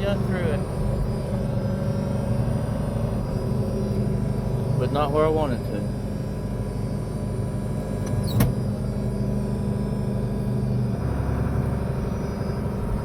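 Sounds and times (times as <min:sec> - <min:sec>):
deep engine rumble: 0:00.0 - 0:13.0
tractor engine running: 0:00.0 - 0:13.0.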